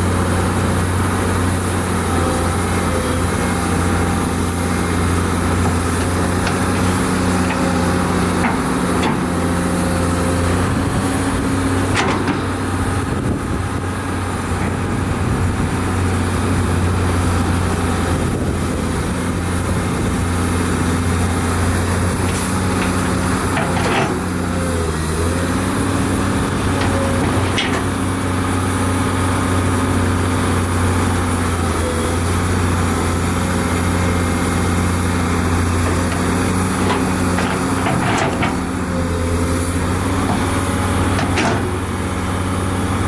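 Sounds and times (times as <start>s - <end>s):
heavy diesel engine under load: 0.0s - 43.0s.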